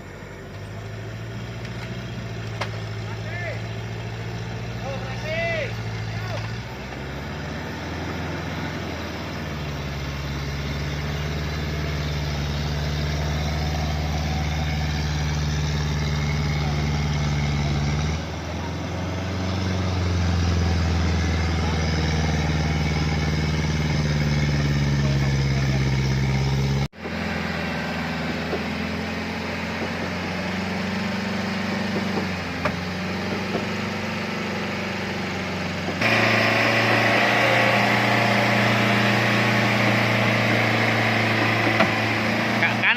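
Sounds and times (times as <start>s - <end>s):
off-road vehicle engine running: 0.0s - 42.9s.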